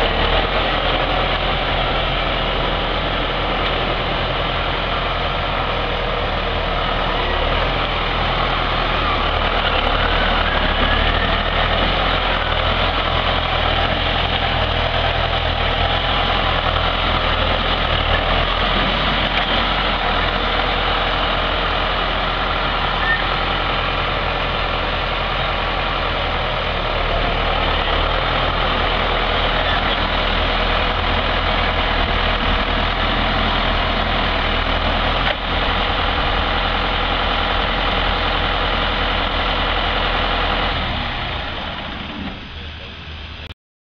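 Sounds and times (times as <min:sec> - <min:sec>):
tractor diesel engine running: 0:00.0 - 0:43.6.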